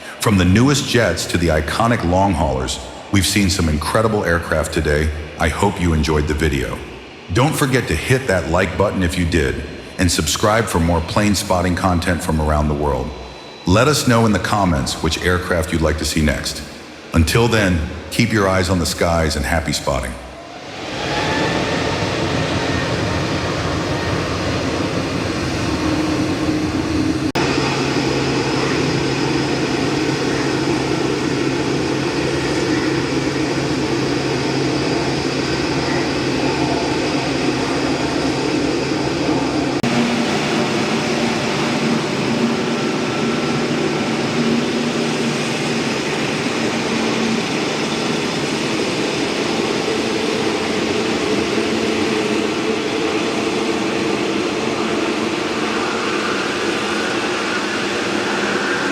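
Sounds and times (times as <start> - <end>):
jet engines roaring and whining: 0.0 - 58.9.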